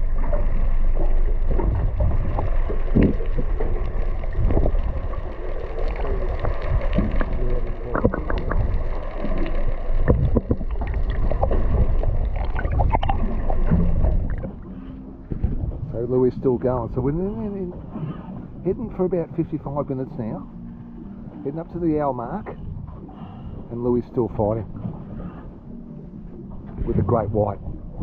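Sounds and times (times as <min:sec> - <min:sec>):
boat engine low rumble: 0:00.0 - 0:28.0.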